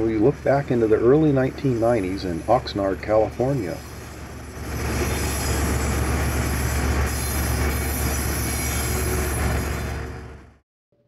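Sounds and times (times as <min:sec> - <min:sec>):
diesel locomotive engine drone: 0:00.0 - 0:10.6
train cars rolling: 0:00.0 - 0:10.6.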